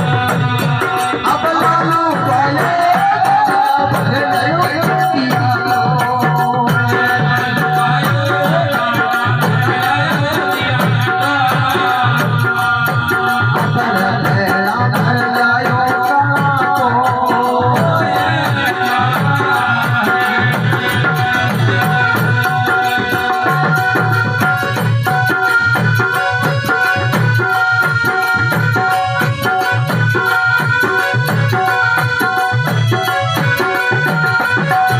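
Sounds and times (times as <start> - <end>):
hand drum beat: 0.0 - 34.9
jingling percussion: 0.0 - 34.9.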